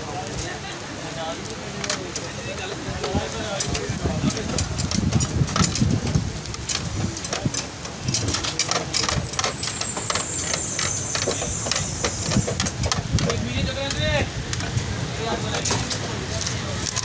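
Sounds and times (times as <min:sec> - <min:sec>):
metal skewers clinking: 0:03.0 - 0:17.0.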